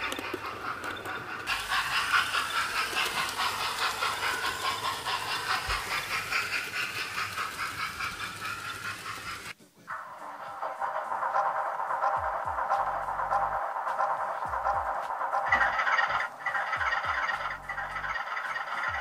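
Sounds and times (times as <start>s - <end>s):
model steam locomotive chuffing: 0.0s - 19.0s.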